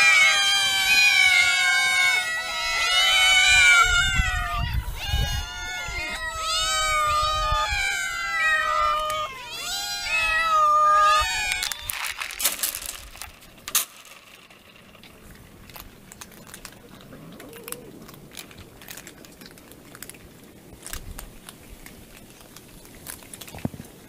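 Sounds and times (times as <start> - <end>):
cats crunching dry kibble: 0.0 - 24.0.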